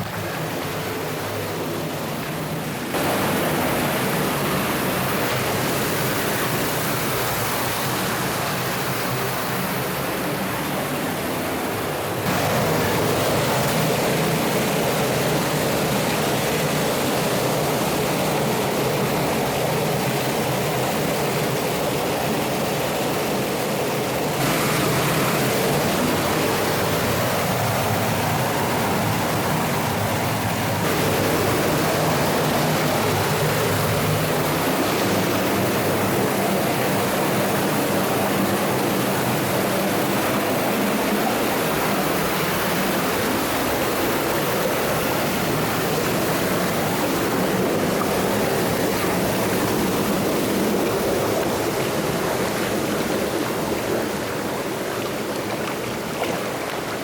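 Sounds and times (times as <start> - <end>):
rushing stream and waterfall: 0.0 - 57.0.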